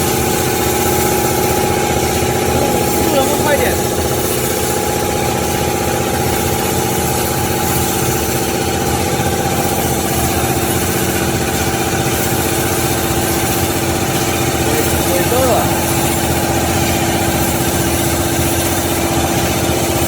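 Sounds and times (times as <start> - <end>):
band saw running: 0.0 - 20.0.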